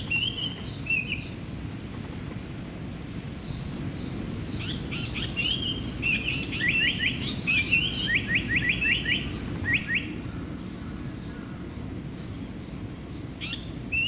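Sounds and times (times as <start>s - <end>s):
bird singing: 0.0s - 1.8s, 3.3s - 14.0s
low background rumble: 0.0s - 14.0s.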